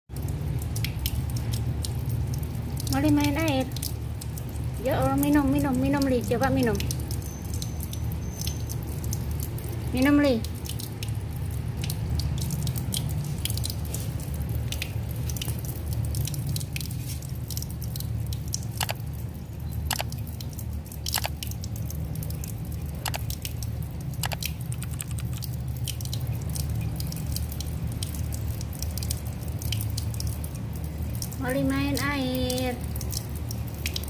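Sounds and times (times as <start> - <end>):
cat lapping water: 0.1 - 34.0
water trickling from a tap: 0.1 - 34.0.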